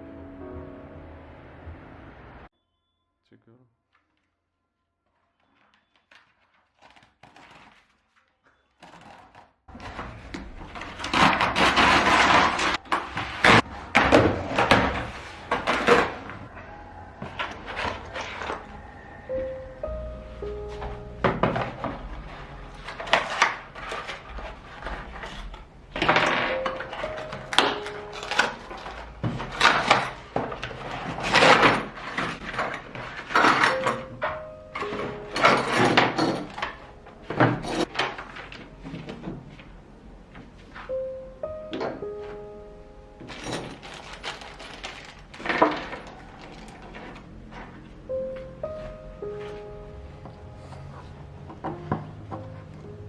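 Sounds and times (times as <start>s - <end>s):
rustling and scraping: 5.1s - 19.2s, 20.4s - 41.1s, 43.2s - 53.0s
faint soft background music: 9.8s - 53.0s.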